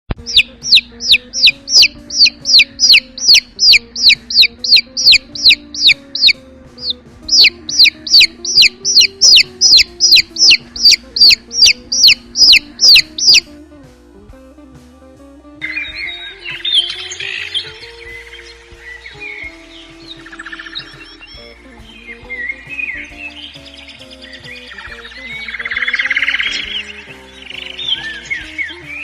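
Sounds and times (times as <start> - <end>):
bird peeping: 0.1 - 13.5, 15.6 - 29.0
faint background music: 0.1 - 29.0.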